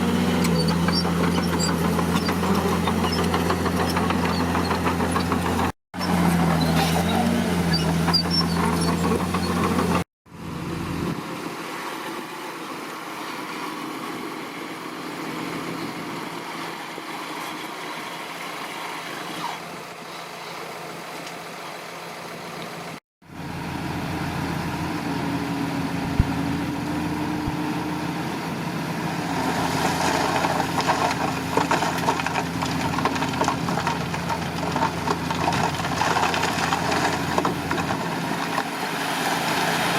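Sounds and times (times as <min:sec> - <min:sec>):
diesel engines of earthmoving machines: 0:00.0 - 0:39.9.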